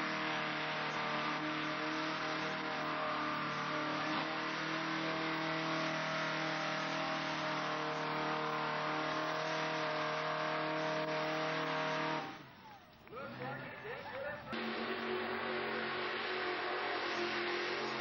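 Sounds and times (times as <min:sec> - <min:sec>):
truck engine running loud: 0:00.0 - 0:12.6, 0:13.8 - 0:18.0.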